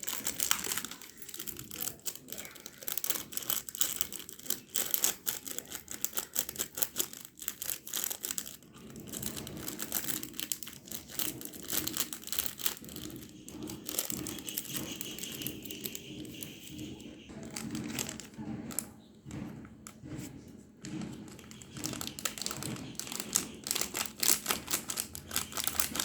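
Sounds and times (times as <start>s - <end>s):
slime clicking and crackling: 0.0s - 20.0s, 20.9s - 26.0s.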